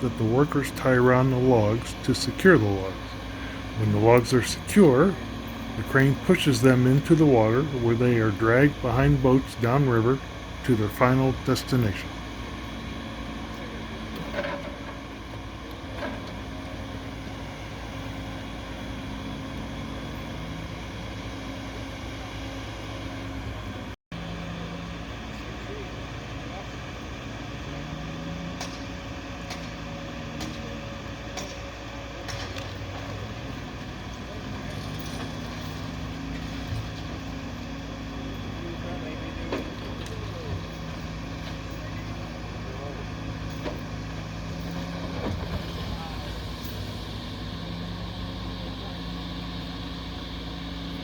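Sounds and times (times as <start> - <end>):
engine droning: 0.0 - 51.0.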